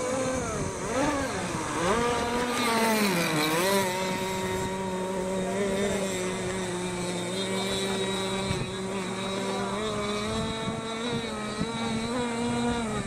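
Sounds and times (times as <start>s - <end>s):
model boat engines at high revs: 0.0s - 13.0s.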